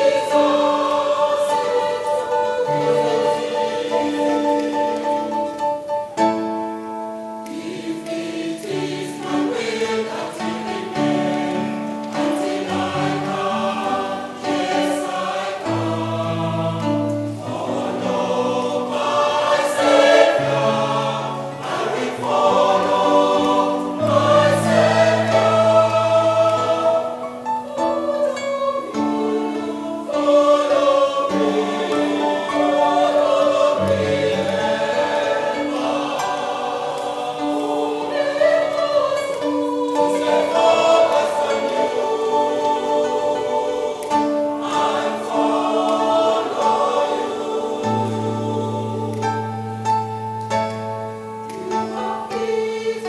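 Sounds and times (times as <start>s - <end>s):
mixed choir singing a hymn: 0.0s - 53.0s.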